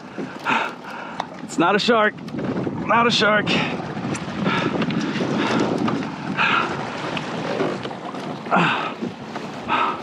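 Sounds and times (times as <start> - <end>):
water sloshing around kayak: 0.0 - 10.0
wind buffeting microphone: 0.0 - 10.0.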